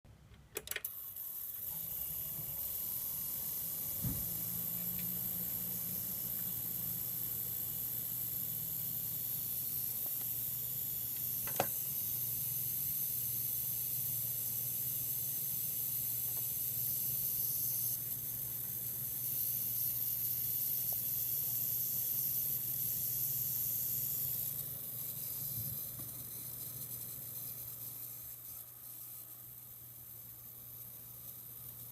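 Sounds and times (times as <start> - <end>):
high-pitched power supply whine: 0.1 - 31.9.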